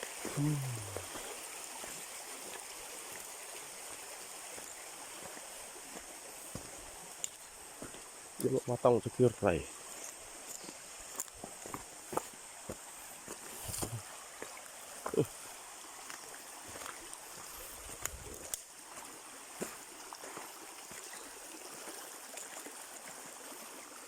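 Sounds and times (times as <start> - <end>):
running water: 0.0 - 24.0.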